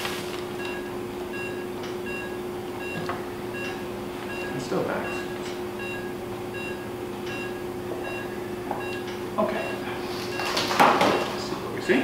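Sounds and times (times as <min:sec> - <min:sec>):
equipment hum: 0:00.0 - 0:12.0
pulse oximeter beeping: 0:00.6 - 0:11.3.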